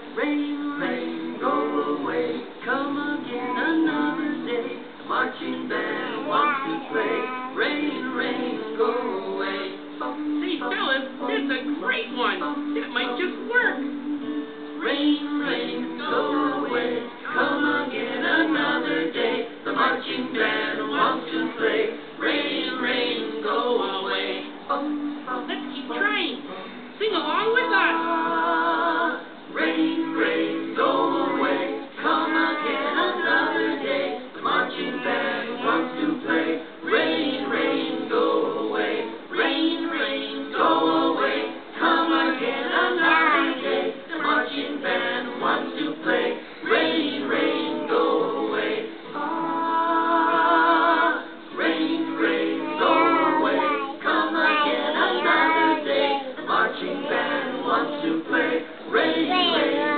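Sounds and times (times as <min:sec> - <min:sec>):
voices singing in harmony: 0:00.0 - 0:59.9.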